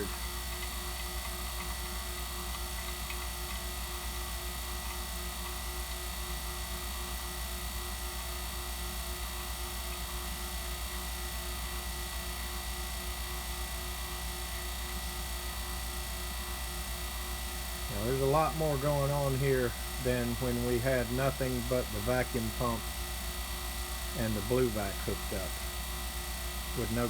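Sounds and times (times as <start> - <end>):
vacuum pump humming: 0.0 - 27.0.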